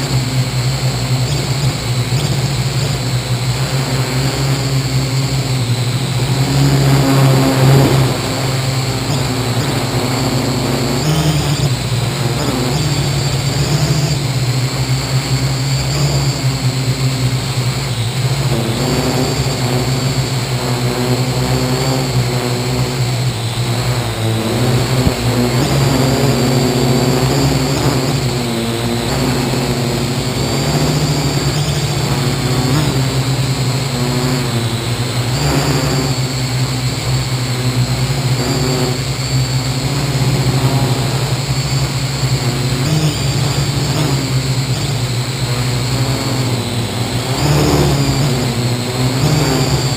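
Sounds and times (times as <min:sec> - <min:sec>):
drone propellers whirring: 0:00.0 - 0:49.9.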